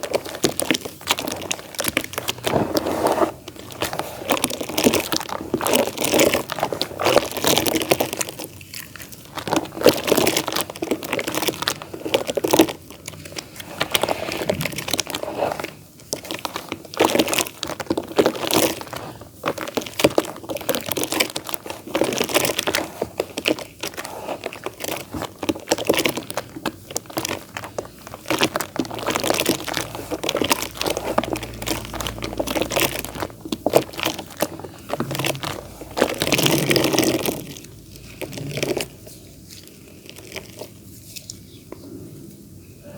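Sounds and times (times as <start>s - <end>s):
damp clay crumbling: 0.0s - 41.6s.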